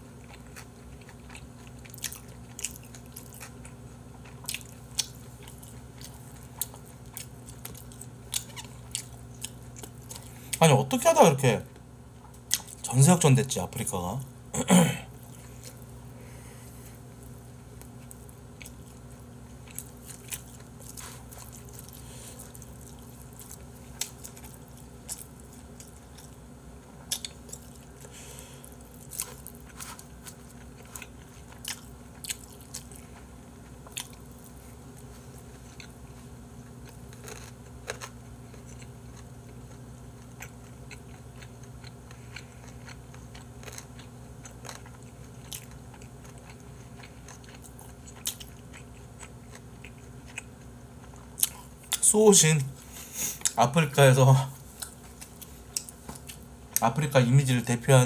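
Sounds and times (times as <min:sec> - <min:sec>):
steady low hum: 0:00.0 - 0:58.0
person chewing: 0:00.2 - 0:10.6, 0:12.2 - 0:12.9, 0:14.8 - 0:26.4, 0:27.0 - 0:52.1, 0:52.8 - 0:53.6, 0:54.5 - 0:56.9.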